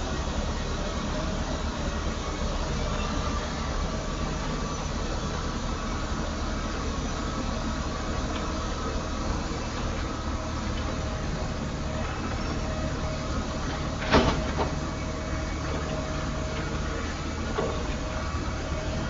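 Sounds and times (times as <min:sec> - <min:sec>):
road milling machine rumbling: 0:00.0 - 0:19.0.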